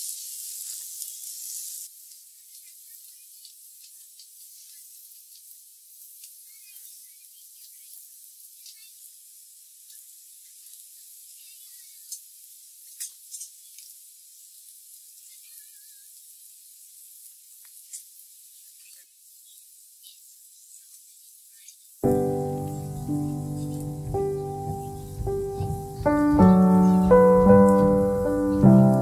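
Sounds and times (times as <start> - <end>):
food sizzling on hotplate: 0.0 - 29.0.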